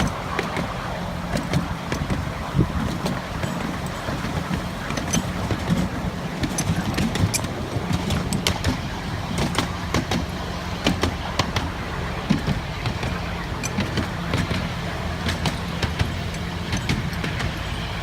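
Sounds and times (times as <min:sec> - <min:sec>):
miniature train rumbling: 0:00.0 - 0:18.0
sharp clicks and knocks: 0:00.0 - 0:18.0.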